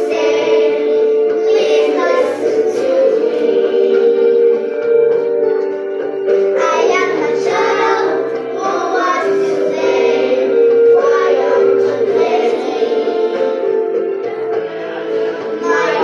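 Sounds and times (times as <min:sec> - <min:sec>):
girls singing together: 0:00.0 - 0:04.9, 0:06.4 - 0:14.0, 0:15.6 - 0:16.0
sustained musical accompaniment: 0:00.0 - 0:16.0.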